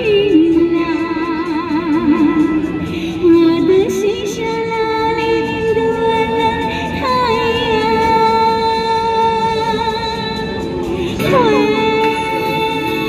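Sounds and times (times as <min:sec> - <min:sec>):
backing track music: 0:00.0 - 0:13.0
woman singing into microphone: 0:00.0 - 0:13.0.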